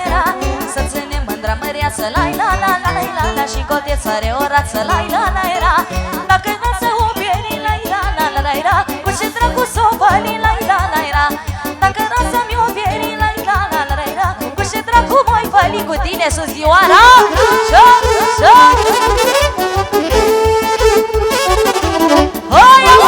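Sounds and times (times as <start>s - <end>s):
live party music: 0.0s - 23.0s.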